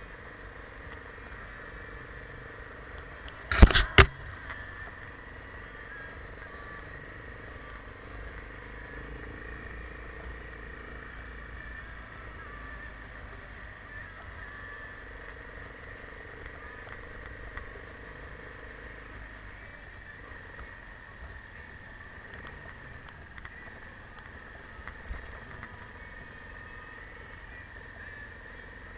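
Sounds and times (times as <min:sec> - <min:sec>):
faint ticks: 0:00.0 - 0:28.9
motorcycle engine at low speed: 0:00.0 - 0:28.9.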